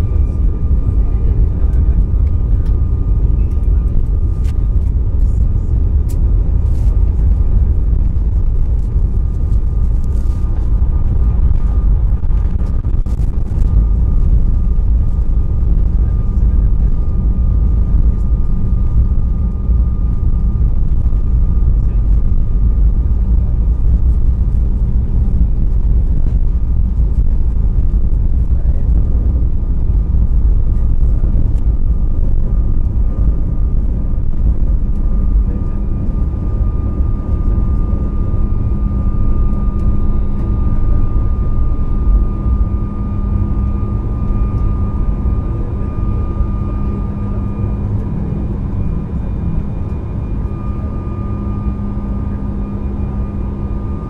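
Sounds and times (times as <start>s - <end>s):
heavy runway rumble: 0.0s - 54.0s
jet engine high whine: 0.0s - 54.0s.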